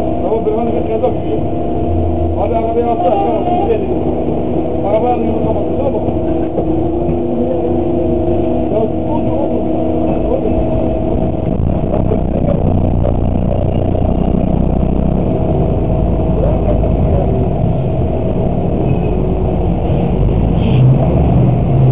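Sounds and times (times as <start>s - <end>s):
bus engine rumble: 0.0s - 21.9s
road noise: 0.0s - 21.9s.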